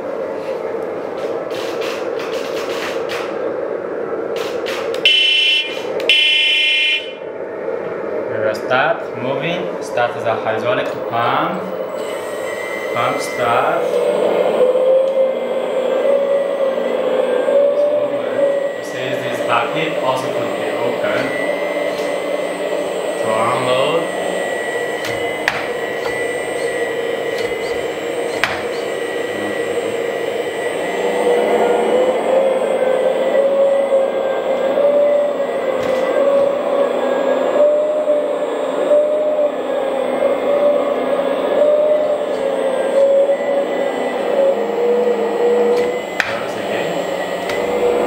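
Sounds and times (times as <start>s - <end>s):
hydraulic pump hum and whine: 0.0s - 48.0s.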